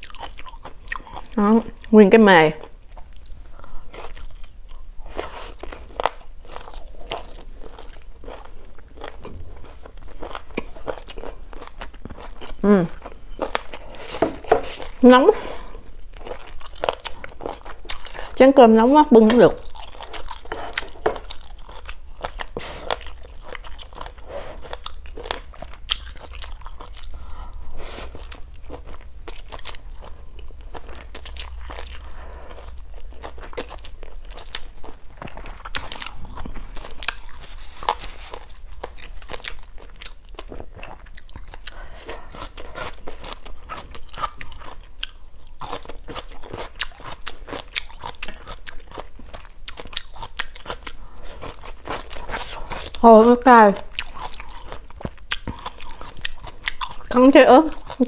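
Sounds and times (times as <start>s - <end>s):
chewing crunches: 0.0s - 1.9s, 2.6s - 15.0s, 15.6s - 18.4s, 19.2s - 58.0s.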